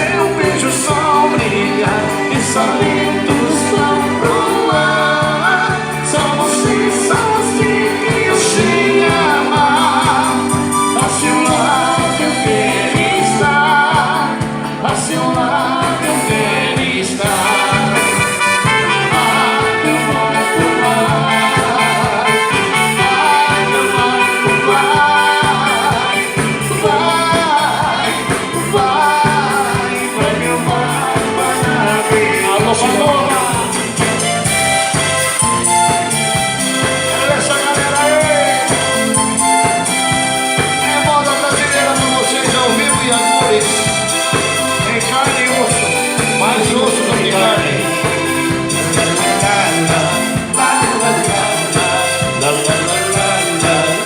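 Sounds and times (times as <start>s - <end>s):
band playing music: 0.0s - 54.0s
pulsing bass beat: 0.0s - 54.0s.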